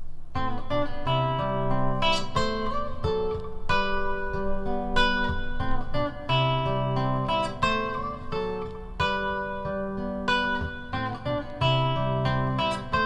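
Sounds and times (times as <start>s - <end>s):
fingerstyle nylon-string guitar: 0.0s - 13.0s.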